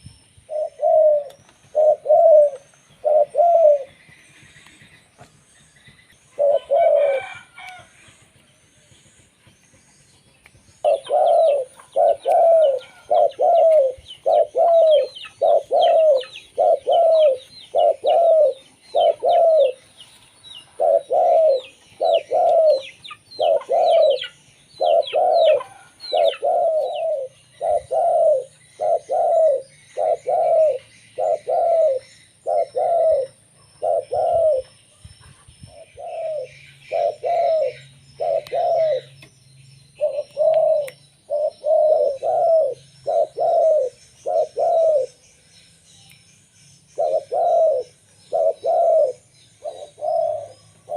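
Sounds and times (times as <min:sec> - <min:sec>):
dove cooing: 0:00.0 - 0:09.0, 0:10.7 - 0:39.3, 0:40.0 - 0:45.2, 0:47.0 - 0:50.9
small bird high chirps: 0:09.7 - 0:50.9.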